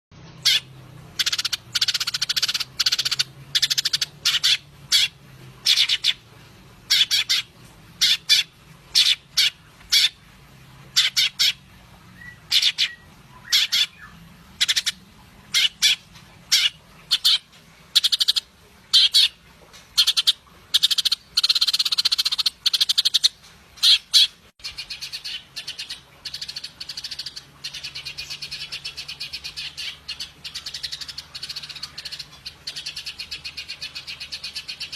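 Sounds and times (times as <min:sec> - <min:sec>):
songbird buzzy calls: 0:00.2 - 0:06.3, 0:06.9 - 0:10.2, 0:10.9 - 0:34.9.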